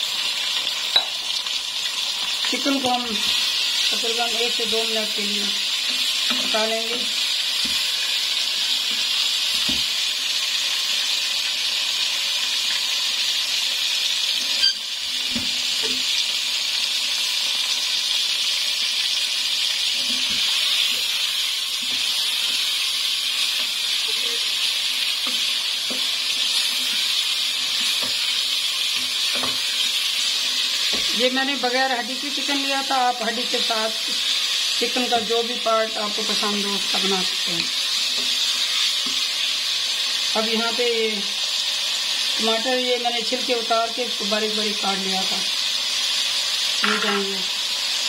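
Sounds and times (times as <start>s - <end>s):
chicken sizzling in hot oil: 0.0s - 48.0s.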